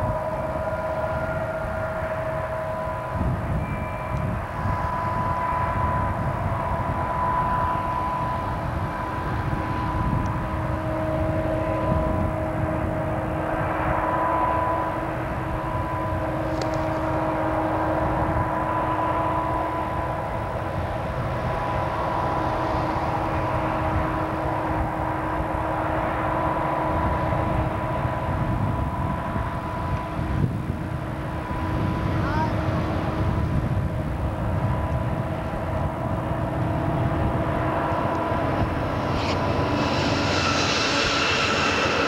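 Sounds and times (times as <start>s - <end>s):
diesel locomotives rumbling: 0.0s - 42.0s
locomotive whine: 0.0s - 42.0s.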